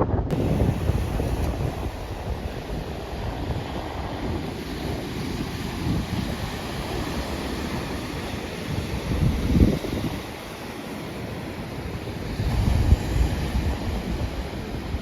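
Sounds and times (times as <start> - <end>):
surf washing on shore: 0.0 - 15.0
wind gusting on microphone: 0.0 - 15.0.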